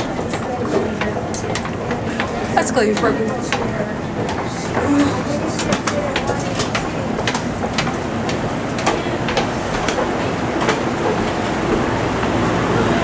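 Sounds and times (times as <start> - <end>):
train rumbling: 0.0 - 13.0
train wheels clicking: 0.0 - 13.0.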